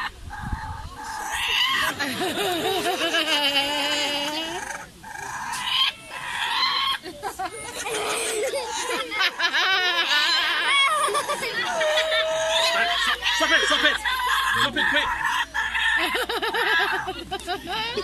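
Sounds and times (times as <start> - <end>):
kookaburra cackling call: 0.0 - 2.2, 2.8 - 7.0, 7.9 - 17.7.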